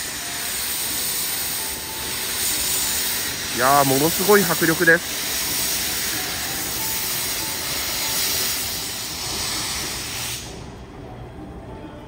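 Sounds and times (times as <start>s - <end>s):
steam locomotive venting steam: 0.0s - 11.0s.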